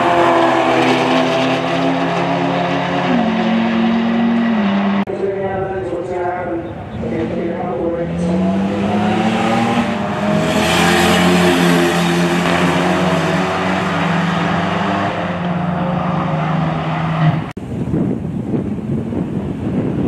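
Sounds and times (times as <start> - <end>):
rough engine noise: 0.0 - 5.9, 6.6 - 17.6
cars racing at full throttle: 0.0 - 17.6.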